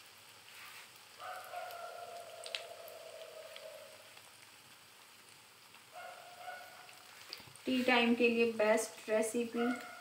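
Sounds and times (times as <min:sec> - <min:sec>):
hot oil sizzling with pops: 0:00.0 - 0:10.0.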